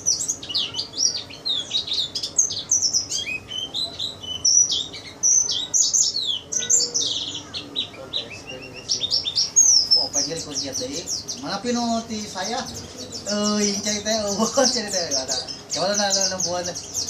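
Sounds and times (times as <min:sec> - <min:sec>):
bird chirping and trilling: 0:00.0 - 0:17.0.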